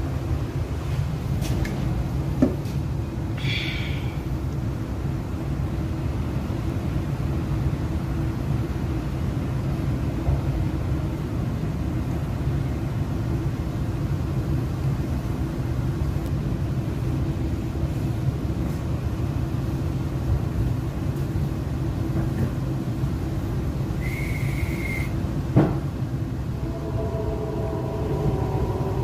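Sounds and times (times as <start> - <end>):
electric train rumble: 0.0 - 29.0.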